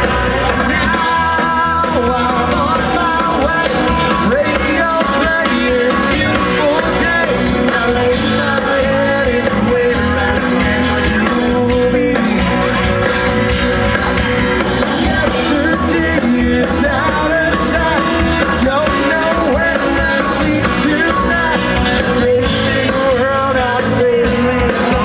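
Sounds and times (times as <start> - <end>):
bass guitar: 0.0 - 25.0
drums: 0.0 - 25.0
electric guitars: 0.0 - 25.0
person singing: 0.0 - 25.0.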